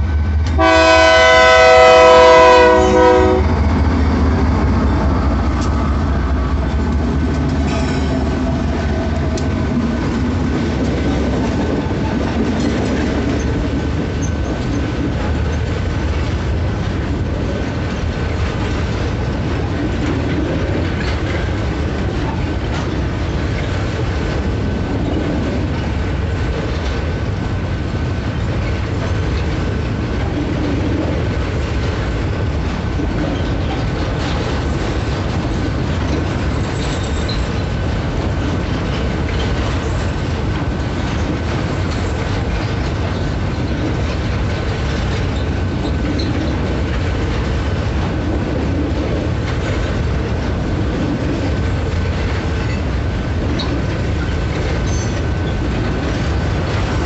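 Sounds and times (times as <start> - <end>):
freight train rumbling past: 0.0 - 57.0
wheels clattering on rails: 0.0 - 57.0.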